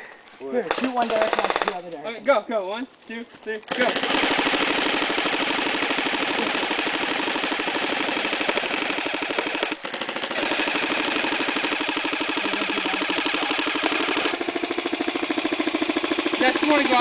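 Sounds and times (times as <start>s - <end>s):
airsoft guns firing full-auto: 0.7s - 1.8s, 3.7s - 17.0s.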